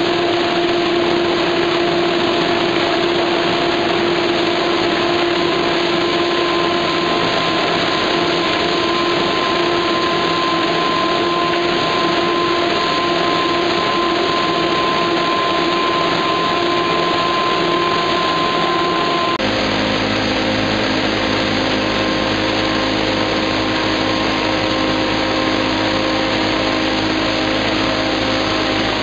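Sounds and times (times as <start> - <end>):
high whine: 0.0 - 29.0.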